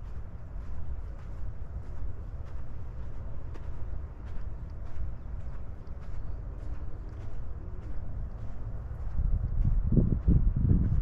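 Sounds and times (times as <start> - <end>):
footsteps on a trail: 0.0 - 11.0
wind rumble on microphone: 0.0 - 11.0.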